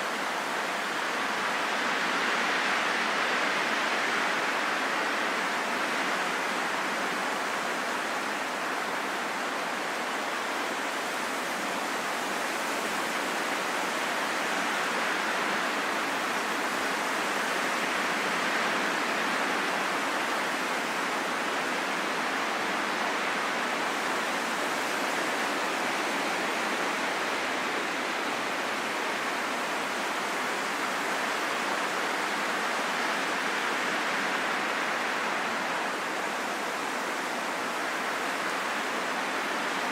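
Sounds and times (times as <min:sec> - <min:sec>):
steady rushing wind: 0:00.0 - 0:39.9.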